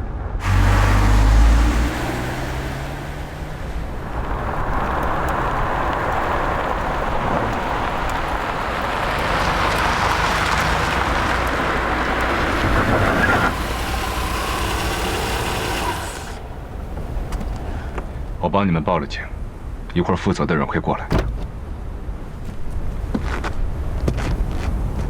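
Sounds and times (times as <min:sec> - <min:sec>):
car engine rumble: 0:00.0 - 0:19.9, 0:20.9 - 0:25.0
road noise: 0:00.0 - 0:25.0.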